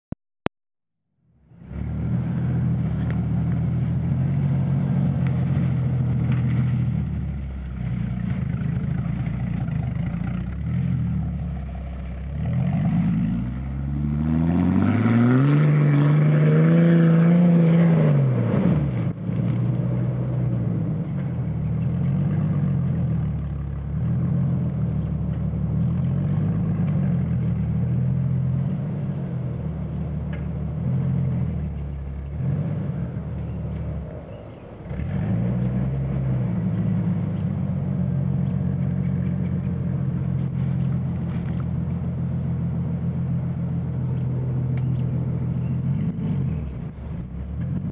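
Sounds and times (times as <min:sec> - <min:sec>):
off-road vehicle engine revving: 0:01.5 - 0:47.9.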